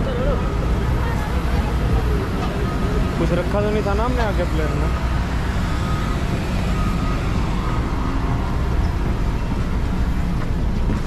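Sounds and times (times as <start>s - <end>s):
jet engine drone: 0.0s - 11.0s.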